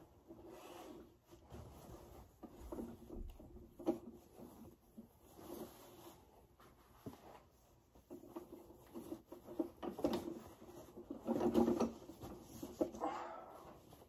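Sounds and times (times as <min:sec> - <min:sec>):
cloth trousers rustling: 0:00.0 - 0:14.0.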